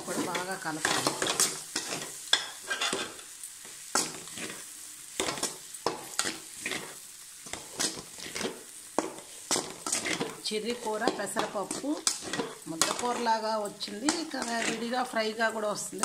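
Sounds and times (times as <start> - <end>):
metal spatula scraping a pan: 0.0 - 15.4
faint frying sizzle: 0.0 - 16.0.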